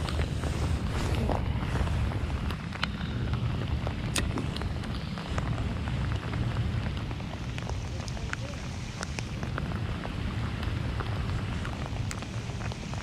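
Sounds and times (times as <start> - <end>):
low steady rumble: 0.0 - 13.0
rain drops ticking on jacket: 0.0 - 13.0.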